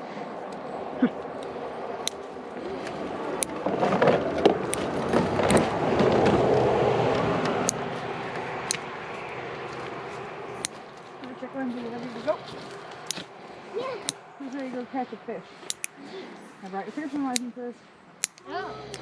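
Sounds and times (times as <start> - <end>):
road vehicle passing by: 0.0 - 19.0.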